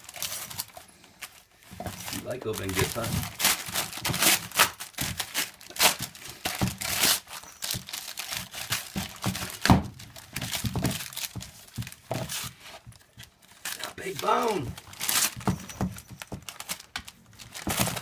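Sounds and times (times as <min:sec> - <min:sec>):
dog tearing wrapping paper: 0:00.0 - 0:18.0.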